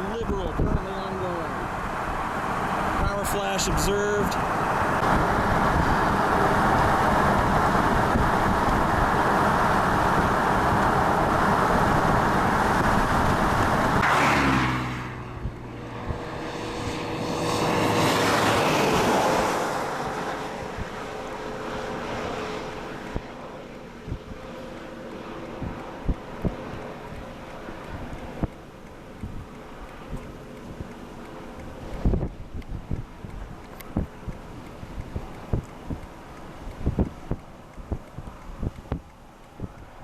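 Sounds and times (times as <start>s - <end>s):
vehicle road and engine noise: 0.0s - 40.0s.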